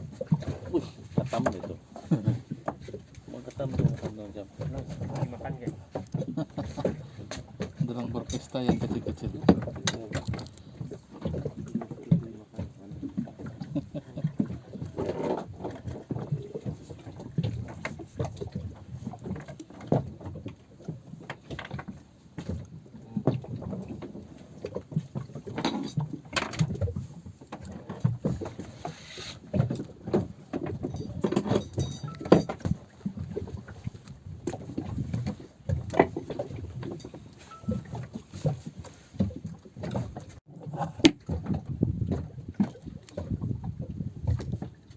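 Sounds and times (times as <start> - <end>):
boat knocks and bumps: 0.0 - 44.9
water lapping against boat hull: 0.0 - 44.9.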